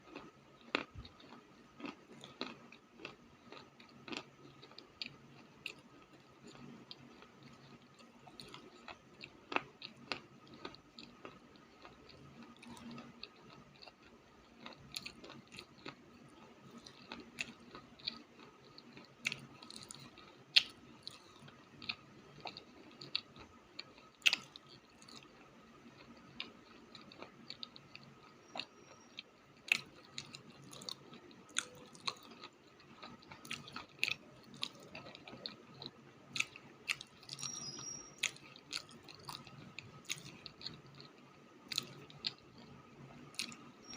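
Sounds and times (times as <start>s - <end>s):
person chewing crunchy clay: 0.0s - 43.9s.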